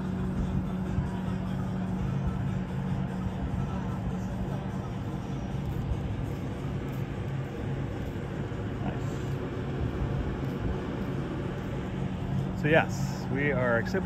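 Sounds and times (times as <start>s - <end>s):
ship machinery hum: 0.0s - 14.0s
wind rumble on microphone: 0.0s - 14.0s.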